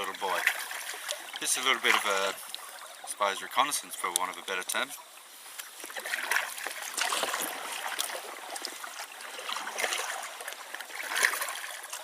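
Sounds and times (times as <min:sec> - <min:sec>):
water drips and plops: 0:00.0 - 0:12.0
water splashing around a canoe: 0:00.0 - 0:12.0.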